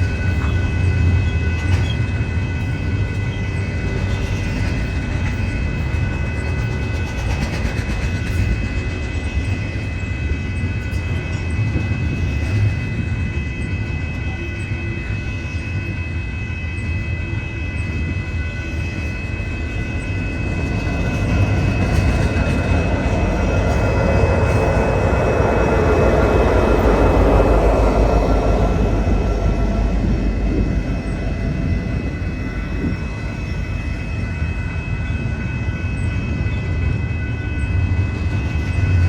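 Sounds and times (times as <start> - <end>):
freight train rumbling past: 0.0 - 39.0.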